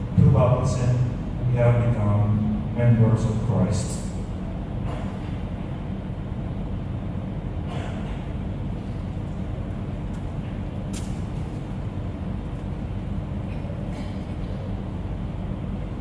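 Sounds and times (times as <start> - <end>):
electric fans droning: 0.0 - 16.0.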